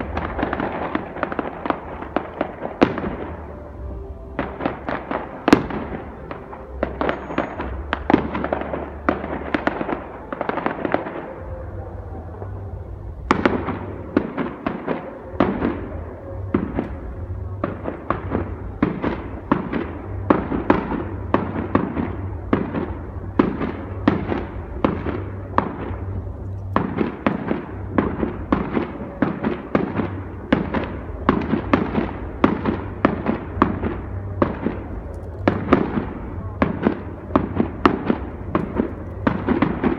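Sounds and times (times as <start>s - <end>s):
fireworks bangs: 0.0s - 39.9s
low rumble: 0.0s - 39.9s.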